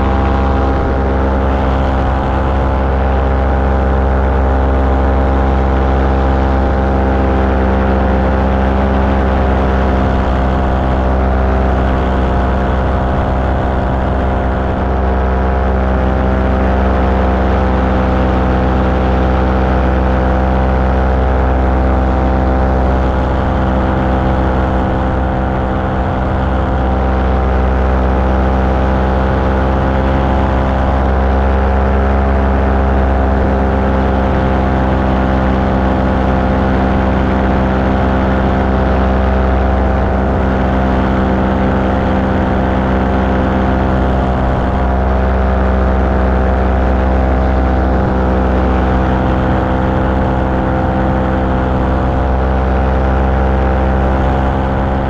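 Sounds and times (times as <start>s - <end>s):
small aircraft engine droning: 0.0s - 55.0s.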